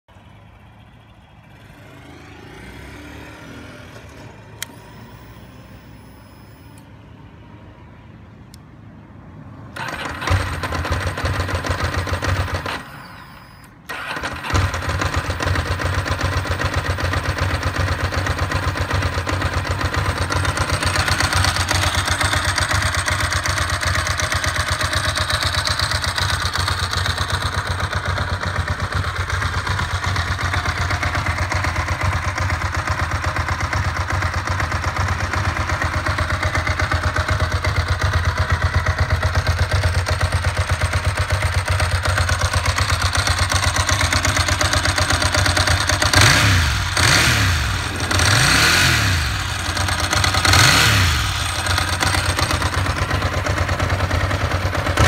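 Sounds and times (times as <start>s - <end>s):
motorcycle engine starting and idling: 0.1s - 7.1s, 9.6s - 55.0s.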